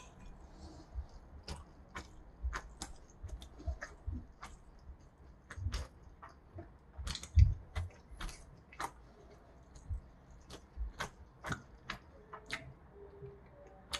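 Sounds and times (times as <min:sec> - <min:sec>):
wet eating clicks and smacks: 0:00.0 - 0:13.9.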